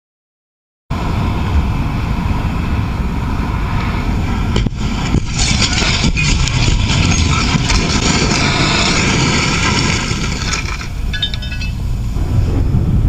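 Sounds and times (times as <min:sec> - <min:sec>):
car engine and road noise: 0:00.9 - 0:13.0
wind noise: 0:00.9 - 0:13.0.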